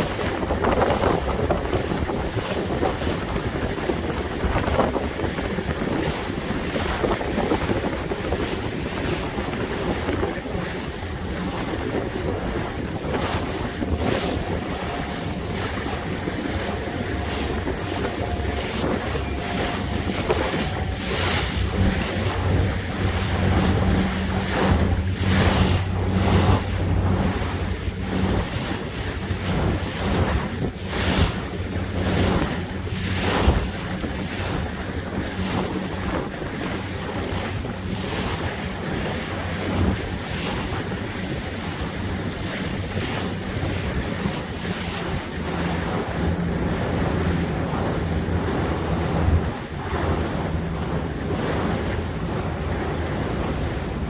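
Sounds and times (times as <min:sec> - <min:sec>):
motorboat engine hum: 0:00.0 - 0:54.0
water rushing along hull: 0:00.0 - 0:54.0
wind buffeting microphone: 0:00.0 - 0:54.0.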